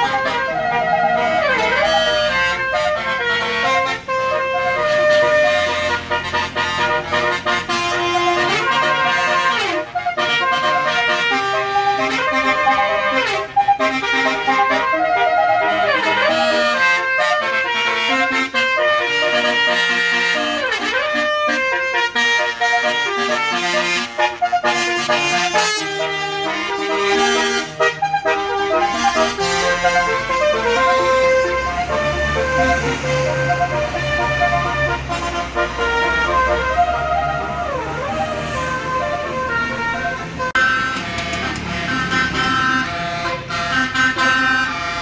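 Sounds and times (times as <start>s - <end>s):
multi-tone melody horn: 0.0s - 45.0s.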